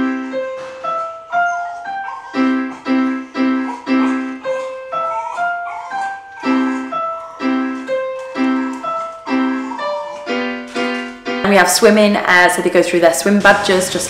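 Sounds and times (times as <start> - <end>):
electronic keyboard piano tune: 0.0 - 14.0.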